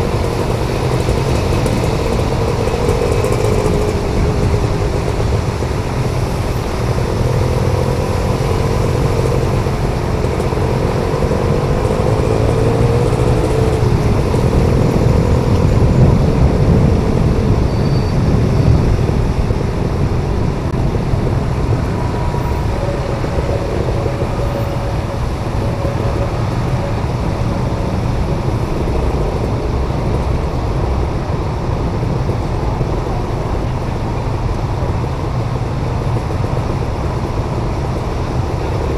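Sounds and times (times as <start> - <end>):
car and motorcycle engines: 0.0 - 38.9.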